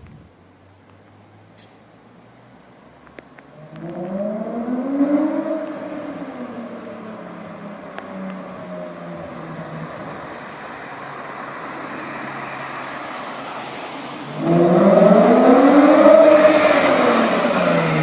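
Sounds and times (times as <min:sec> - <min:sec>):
car engine accelerating hard: 0:03.6 - 0:18.0.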